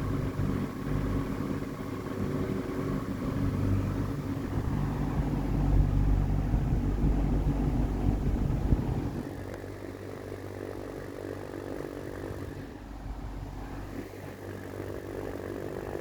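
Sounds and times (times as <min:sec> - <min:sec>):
electric fan motor humming: 0:00.0 - 0:16.0.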